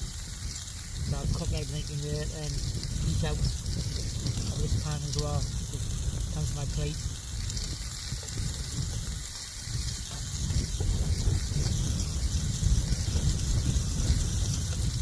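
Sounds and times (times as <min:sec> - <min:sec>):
food frying in a pan: 0:00.0 - 0:15.0
wind buffeting microphone: 0:00.0 - 0:15.0.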